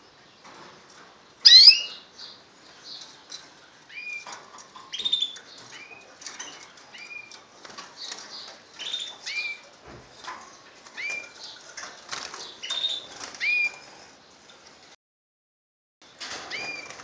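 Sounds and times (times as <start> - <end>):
caged birds chirping: 0.0 - 14.9, 16.0 - 17.0.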